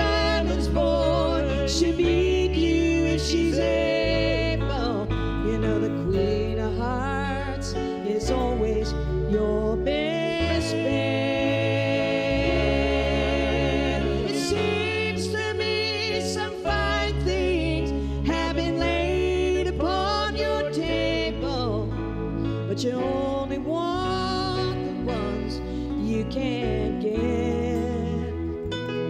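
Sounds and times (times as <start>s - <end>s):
person singing: 0.0s - 28.7s
electric bass: 0.0s - 29.0s
keyboard: 0.0s - 29.0s.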